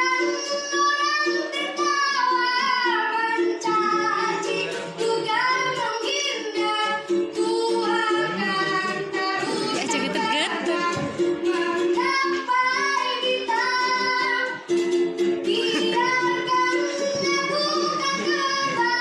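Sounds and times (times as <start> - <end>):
child singing: 0.0 - 14.7, 15.4 - 19.0
instrumental accompaniment: 0.0 - 19.0.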